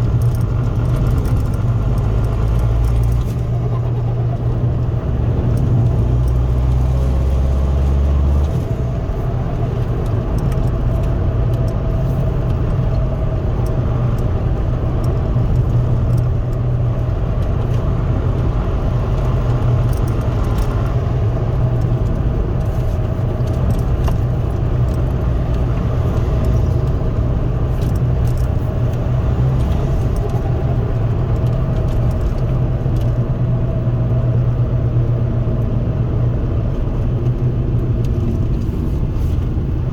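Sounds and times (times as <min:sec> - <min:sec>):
diesel car engine running: 0:00.0 - 0:39.9
road noise: 0:00.0 - 0:39.9.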